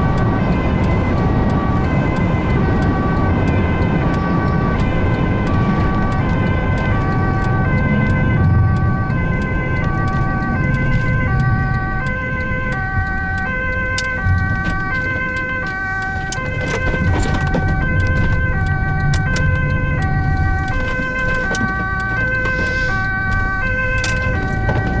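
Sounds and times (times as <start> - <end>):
ambulance two-tone siren: 0.0 - 25.0
vehicle engine and tyres rumble: 0.0 - 25.0.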